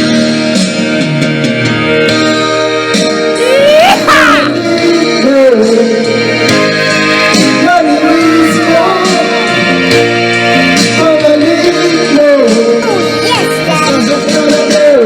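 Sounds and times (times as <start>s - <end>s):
karaoke song with sung vocal: 0.0s - 15.0s.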